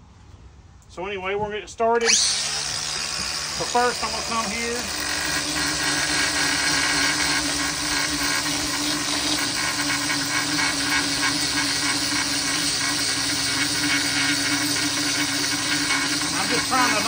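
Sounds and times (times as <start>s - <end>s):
handheld grinder grinding metal: 2.0s - 17.0s.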